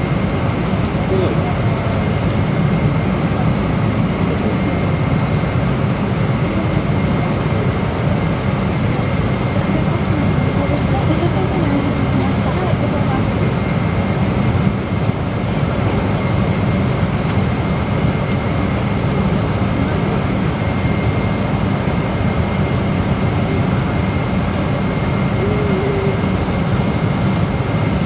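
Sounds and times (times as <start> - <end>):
jet engine hum and air rush: 0.0 - 28.0.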